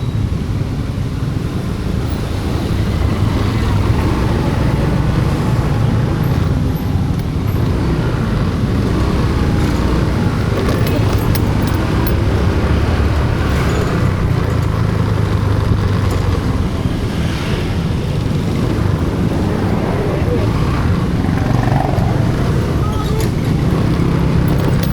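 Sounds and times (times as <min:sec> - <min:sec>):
road vehicle rumble: 0:00.0 - 0:24.9.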